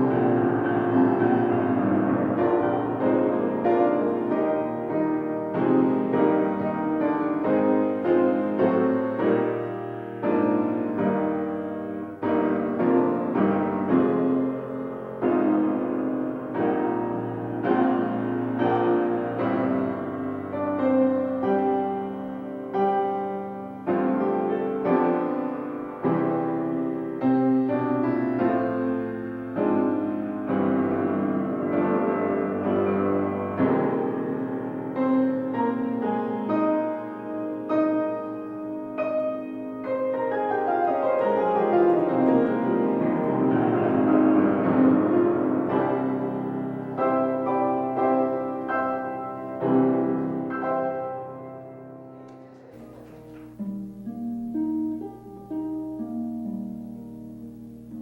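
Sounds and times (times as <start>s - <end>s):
piano playing: 0.0s - 58.0s.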